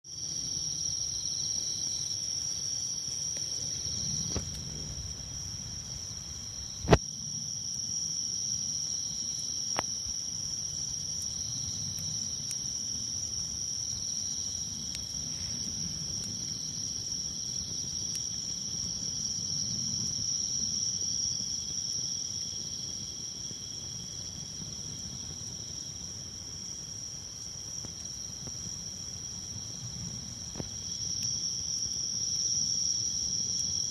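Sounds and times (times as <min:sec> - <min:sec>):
insects chorus: 0:00.1 - 0:33.9
campfire crackling and popping: 0:00.3 - 0:33.7.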